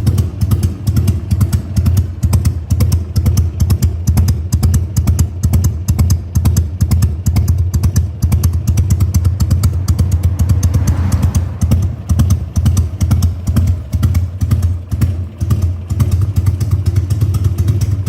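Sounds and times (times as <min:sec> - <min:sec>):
motorcycle engine idling loping: 0:00.0 - 0:18.0.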